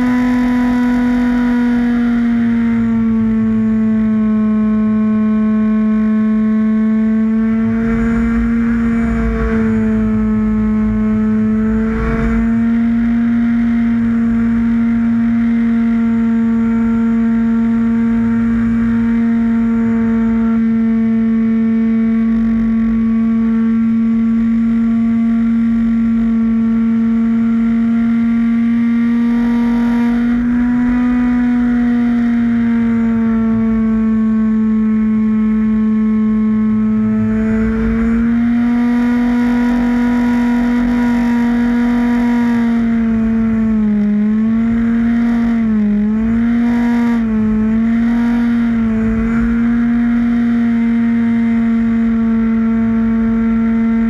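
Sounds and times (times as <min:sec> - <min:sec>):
model airplane motor whine: 0:00.0 - 0:13.2, 0:13.8 - 0:54.0.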